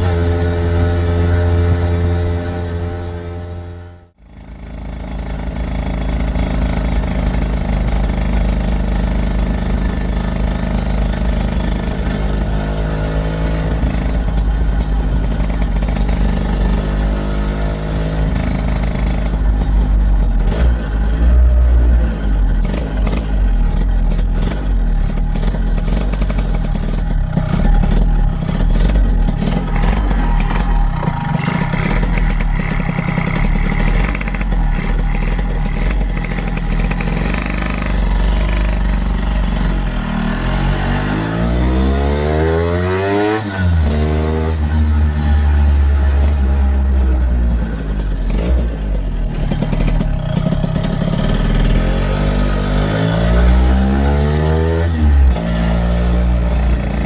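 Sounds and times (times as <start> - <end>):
scooter engine accelerating: 0.0 - 57.0.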